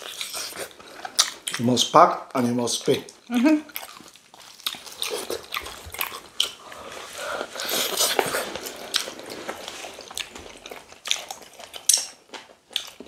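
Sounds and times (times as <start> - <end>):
people chewing with wet smacks: 0.0 - 1.8, 2.7 - 13.0.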